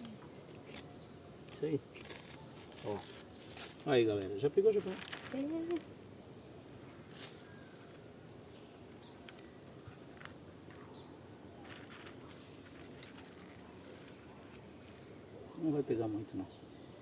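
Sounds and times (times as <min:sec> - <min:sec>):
low outdoor hiss: 0:00.0 - 0:17.0.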